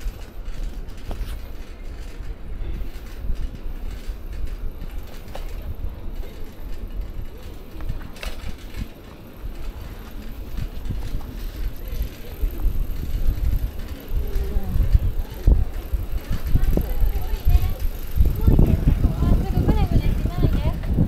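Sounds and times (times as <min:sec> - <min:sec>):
bicycle tyres rumbling on asphalt: 0:00.0 - 0:21.0
small clicks and rattles: 0:00.0 - 0:21.0
wind on microphone: 0:00.0 - 0:21.0.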